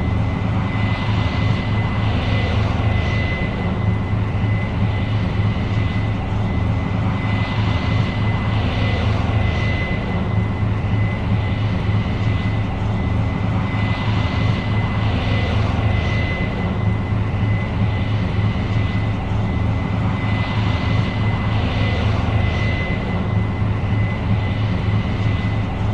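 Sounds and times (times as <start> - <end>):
combine engine drone: 0.0 - 25.9
high-pitched whine: 0.0 - 25.9.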